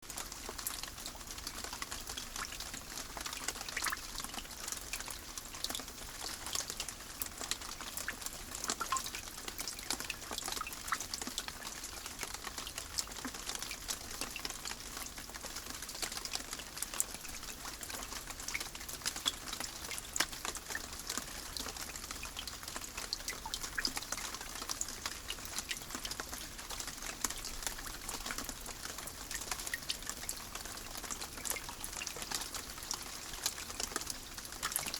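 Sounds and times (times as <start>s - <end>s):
rain falling steadily: 0.0s - 34.9s.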